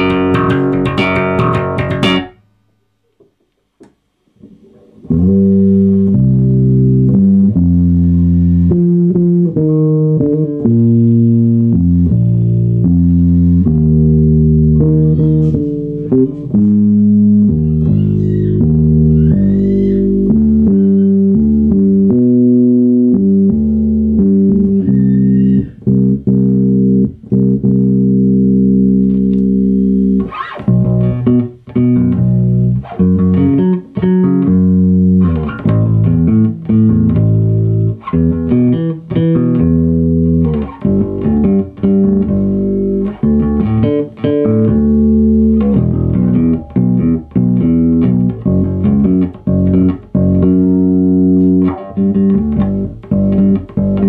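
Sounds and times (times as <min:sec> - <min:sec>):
bass guitar notes: 0:00.0 - 0:02.6, 0:04.0 - 0:54.0.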